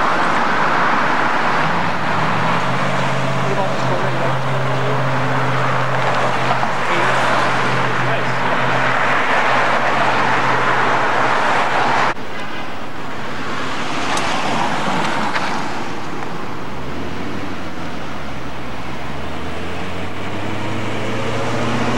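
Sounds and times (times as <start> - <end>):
cars driving past: 0.0 - 21.9.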